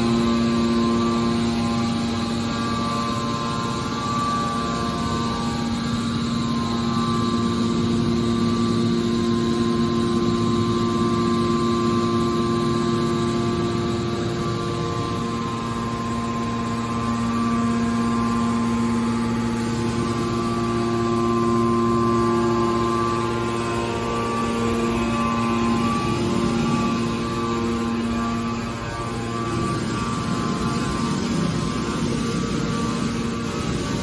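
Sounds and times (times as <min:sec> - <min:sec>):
machinery electric hum: 0:00.0 - 0:34.0
noisy background: 0:00.0 - 0:34.0.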